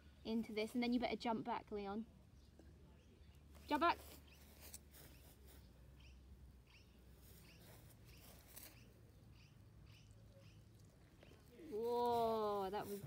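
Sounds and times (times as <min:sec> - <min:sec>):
small bird chirping: 0:02.3 - 0:13.0.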